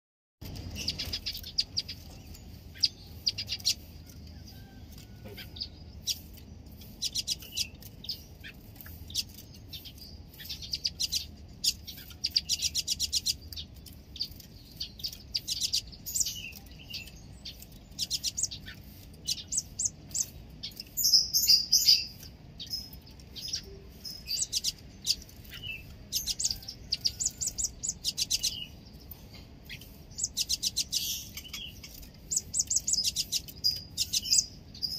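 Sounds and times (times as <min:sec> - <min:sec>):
sunbird twittering trills: 0:00.4 - 0:34.9.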